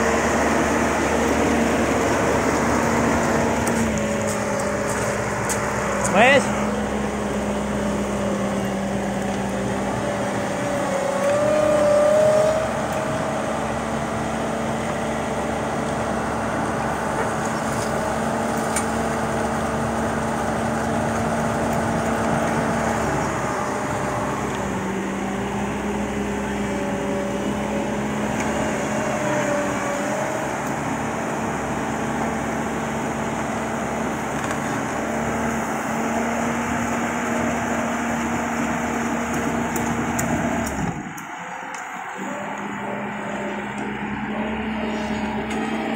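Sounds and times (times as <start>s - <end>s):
concrete mixer engine and hydraulics: 0.0s - 45.9s.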